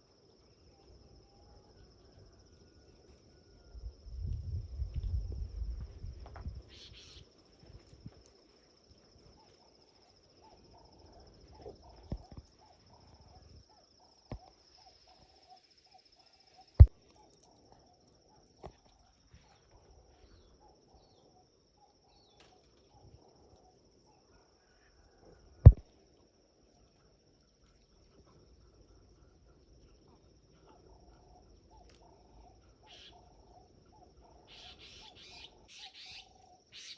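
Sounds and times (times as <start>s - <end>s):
insects trilling: 5.6s - 36.9s.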